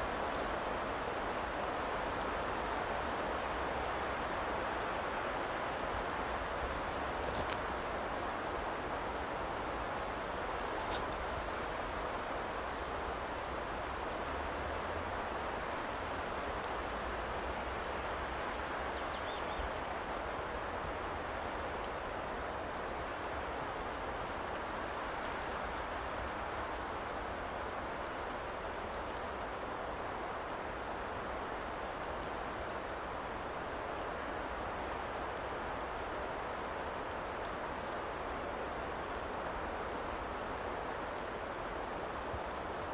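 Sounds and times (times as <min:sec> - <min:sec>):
steady woodland hiss: 0:00.0 - 0:42.9.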